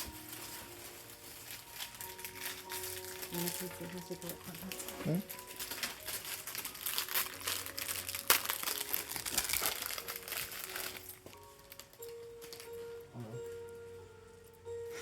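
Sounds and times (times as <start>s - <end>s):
gift wrapping crinkling: 0.0s - 15.0s
soft background music: 0.0s - 15.0s.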